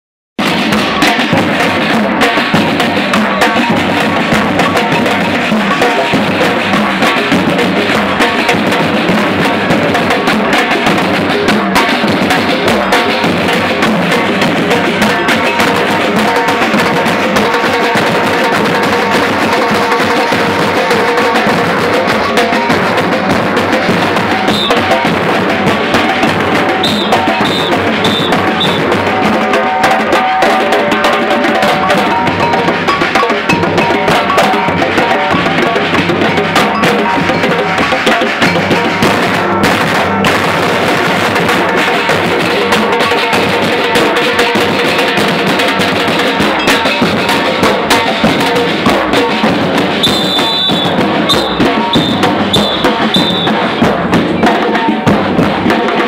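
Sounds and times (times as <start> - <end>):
bass drums: 0.4 - 56.0
drum ensemble playing samba rhythm: 0.4 - 56.0
snare drums: 0.4 - 56.0.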